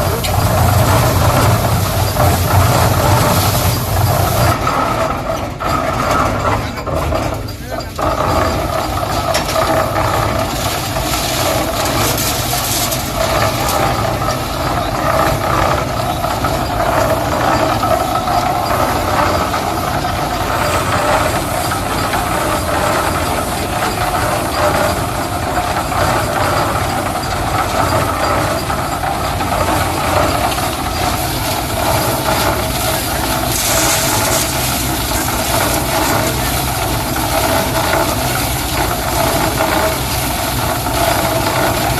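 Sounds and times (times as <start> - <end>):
concrete mixer running: 0.0 - 41.9.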